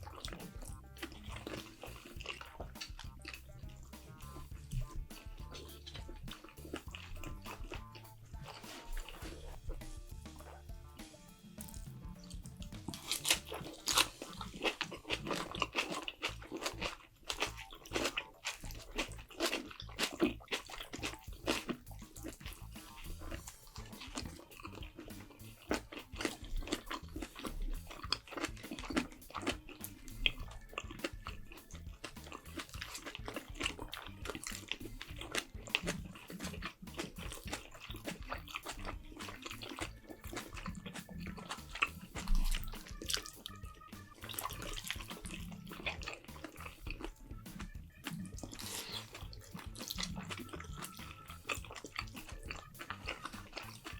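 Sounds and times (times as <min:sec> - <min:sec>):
wet chewing and smacking: 0:00.0 - 0:53.9.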